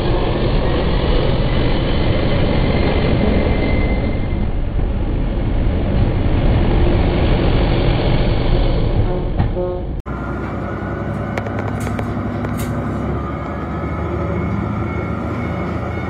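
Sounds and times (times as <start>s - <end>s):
diesel railcar rumbling: 0.0s - 16.0s.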